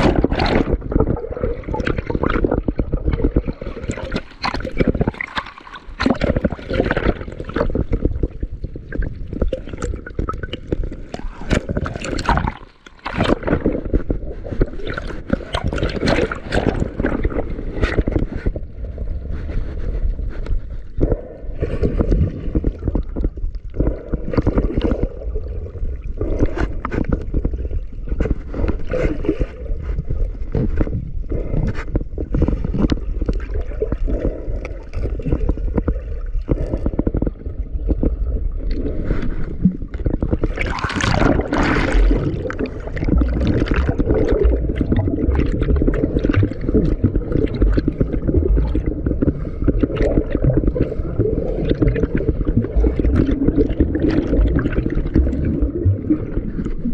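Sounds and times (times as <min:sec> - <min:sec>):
rush of bubbles: 0:00.0 - 0:20.0, 0:21.0 - 0:56.9
underwater bubbling: 0:00.0 - 0:56.9
water sloshing and gurgling: 0:00.0 - 0:56.9.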